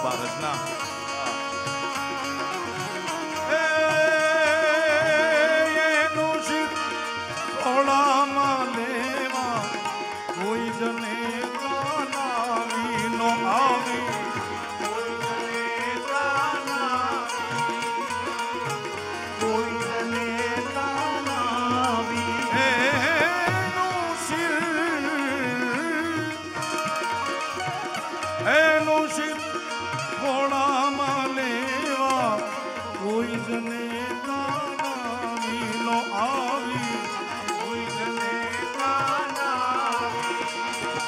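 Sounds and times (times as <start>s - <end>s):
harmonium: 0.0s - 41.0s
person singing ornamented melody: 0.0s - 41.0s.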